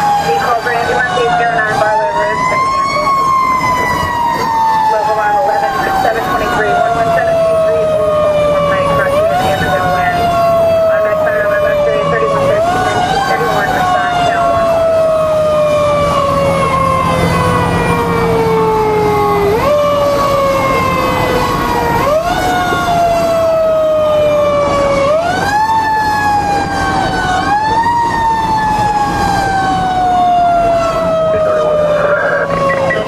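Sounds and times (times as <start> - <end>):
truck engine drone: 0.0 - 33.0.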